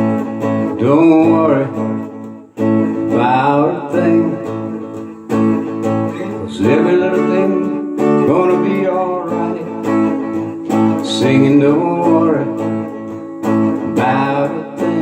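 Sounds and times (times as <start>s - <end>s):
acoustic guitar strumming: 0.0s - 15.0s
person singing: 0.0s - 15.0s.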